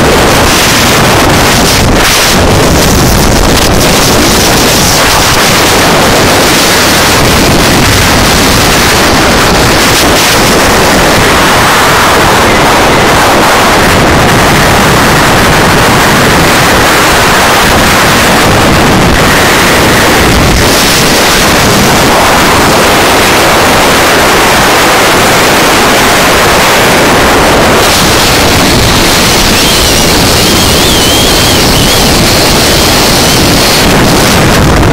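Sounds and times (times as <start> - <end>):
strong wind on microphone: 0.0 - 34.9.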